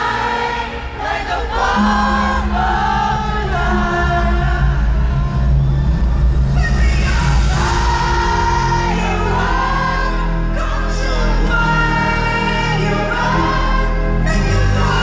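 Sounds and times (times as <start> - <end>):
pop band with heavy bass: 0.0 - 15.0.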